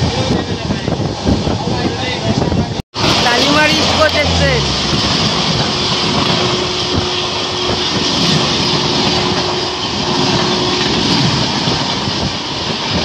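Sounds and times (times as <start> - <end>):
train coaches rushing past: 2.4 - 13.0.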